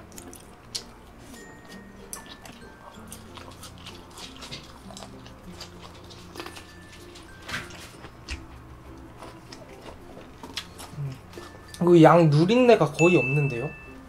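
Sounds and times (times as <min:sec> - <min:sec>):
close chewing with crunches: 0:00.0 - 0:11.9
soft background music: 0:00.0 - 0:14.0.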